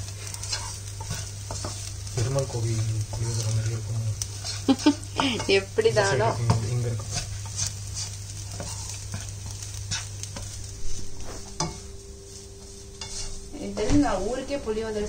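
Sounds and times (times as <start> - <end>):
spatula scraping and tapping a pan: 0.0 - 14.0
light sizzle of frying rice: 0.0 - 15.0.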